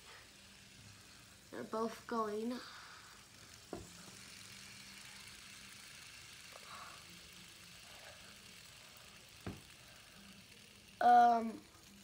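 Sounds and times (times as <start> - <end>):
fidget spinners whirring: 0.0 - 12.0.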